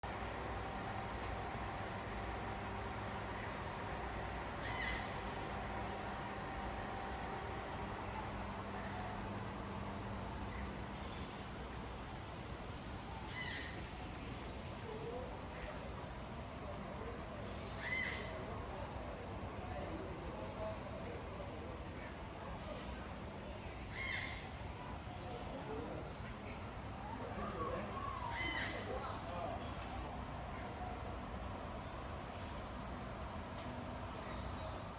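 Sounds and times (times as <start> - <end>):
insects droning: 0.0 - 34.9
short insect chirp: 0.0 - 34.9.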